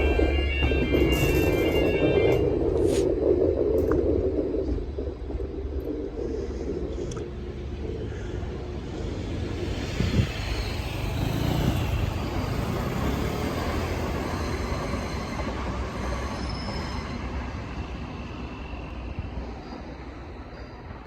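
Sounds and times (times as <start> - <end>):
train passing rumble: 0.0 - 21.0.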